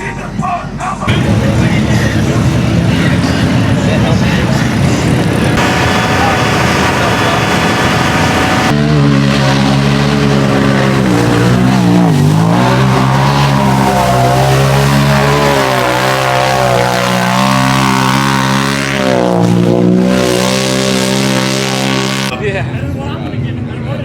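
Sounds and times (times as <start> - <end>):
off-road vehicle engine full throttle: 0.0 - 24.0.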